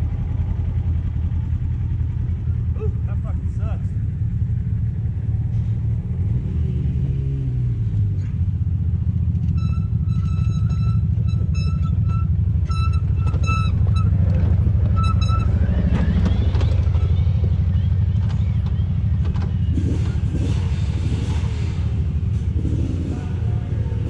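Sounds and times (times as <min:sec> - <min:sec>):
utv engines rumbling: 0:00.0 - 0:24.0.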